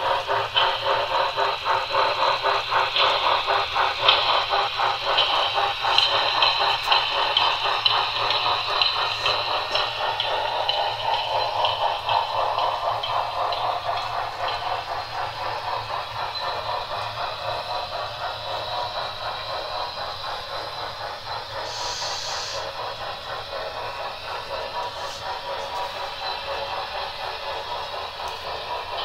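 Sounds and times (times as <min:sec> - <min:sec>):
model train whirring: 0:00.0 - 0:29.0
wheels clicking over rails: 0:00.0 - 0:29.0.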